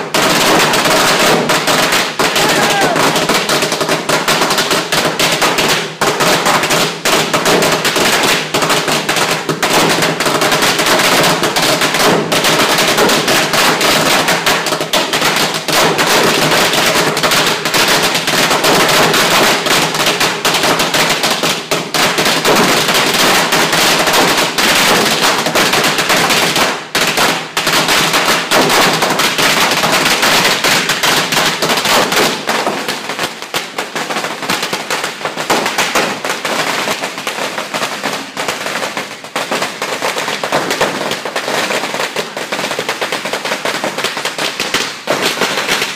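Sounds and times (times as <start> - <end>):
firecrackers cracking: 0.0 - 45.9.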